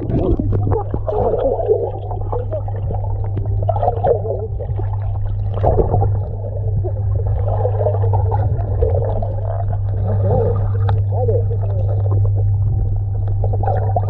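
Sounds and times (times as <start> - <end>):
steady low hum: 0.0 - 14.0
water gurgling and bubbling: 0.0 - 14.0.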